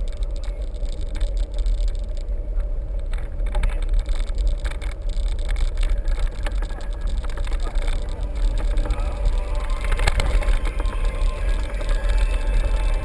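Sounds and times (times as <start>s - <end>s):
clicks and light rattles: 0.0s - 11.0s
steady hum: 0.0s - 13.0s
wind rumbling on microphone: 0.0s - 13.0s.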